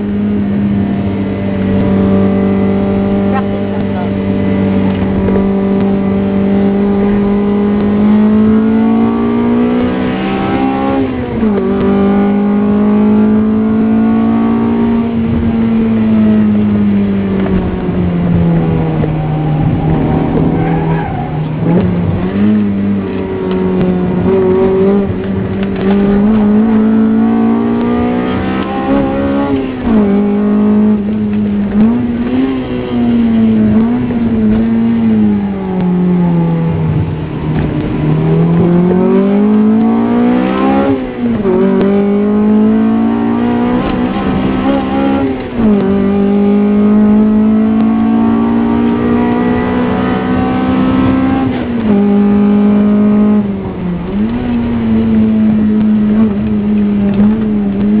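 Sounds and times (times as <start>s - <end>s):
car engine revving from inside: 0.4s - 58.0s.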